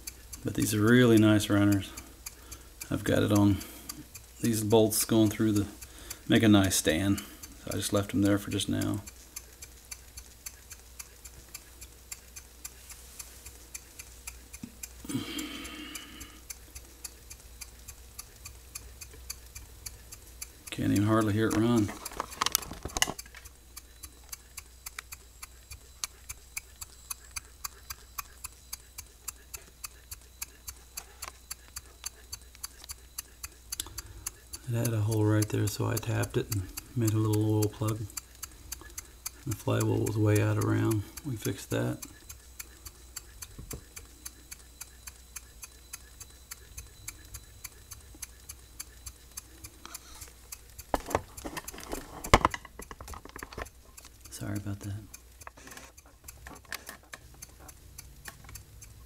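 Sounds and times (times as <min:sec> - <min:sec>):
steam engine running quietly: 0:00.0 - 0:52.4
light even ticking: 0:00.0 - 0:59.0.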